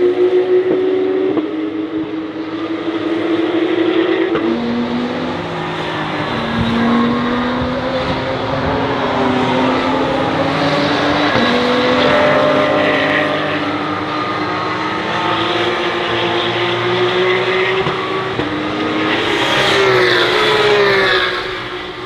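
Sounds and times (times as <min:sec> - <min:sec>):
race car engines at high revs: 0:00.0 - 0:22.0
race car passing by: 0:00.9 - 0:22.0.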